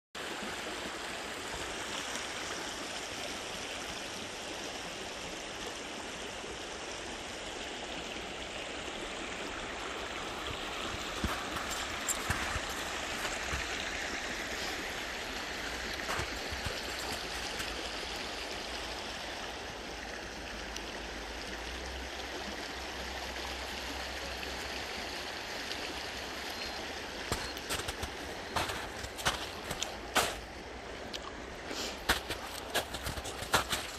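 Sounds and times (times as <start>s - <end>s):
creek flowing: 0.2s - 33.9s.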